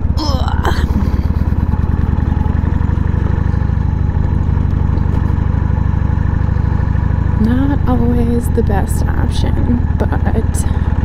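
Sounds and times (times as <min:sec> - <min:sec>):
motorcycle engine running low revs: 0:00.0 - 0:11.0.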